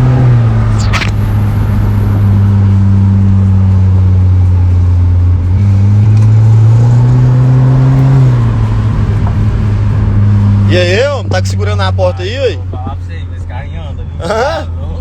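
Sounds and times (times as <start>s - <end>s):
car engine drone from inside: 0.0s - 15.0s.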